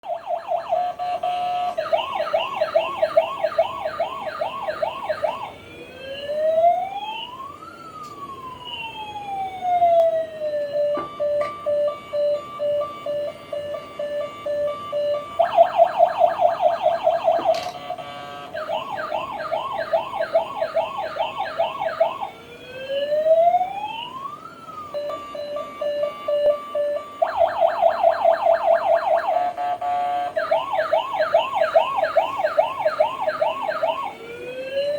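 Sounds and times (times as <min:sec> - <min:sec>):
toy electronic siren: 0:00.0 - 0:34.9.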